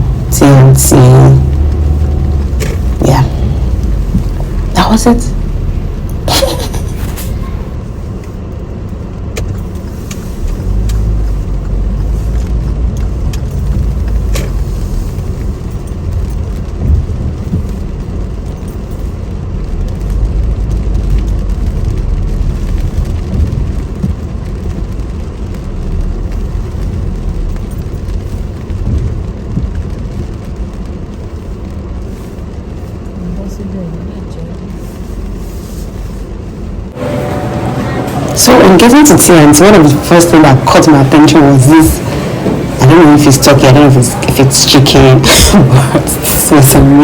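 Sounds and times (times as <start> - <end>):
vehicle rumble from inside: 0.0 - 47.0.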